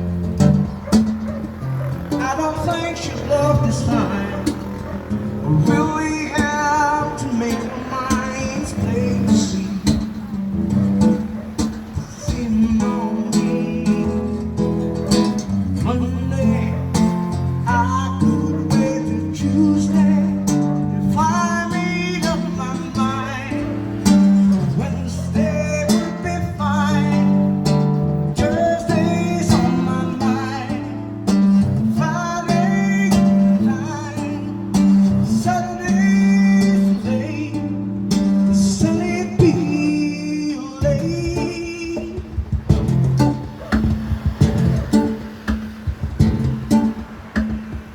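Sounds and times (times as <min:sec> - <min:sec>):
acoustic guitar music: 0:00.0 - 0:47.9.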